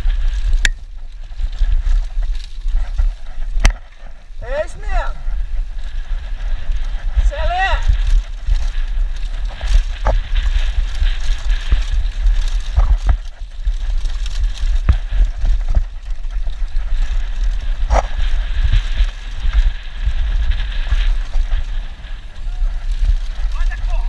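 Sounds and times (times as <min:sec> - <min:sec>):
bike rattling over bumps: 0:00.0 - 0:24.0
wind buffeting microphone: 0:00.0 - 0:24.0.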